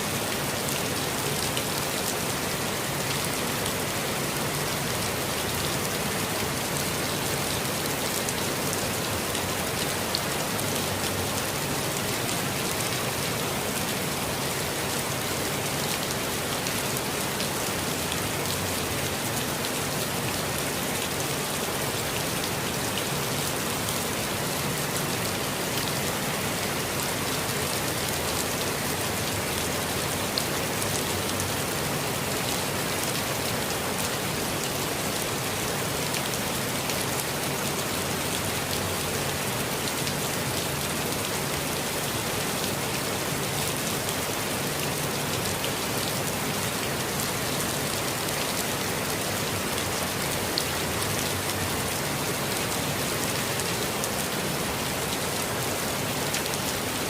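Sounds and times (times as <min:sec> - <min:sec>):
rain pattering on foliage: 0:00.0 - 0:57.0.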